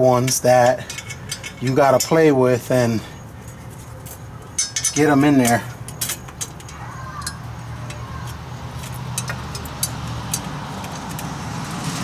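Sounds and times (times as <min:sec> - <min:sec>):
metallic clinks of bolts and tool: 0:00.2 - 0:02.9, 0:03.5 - 0:11.2.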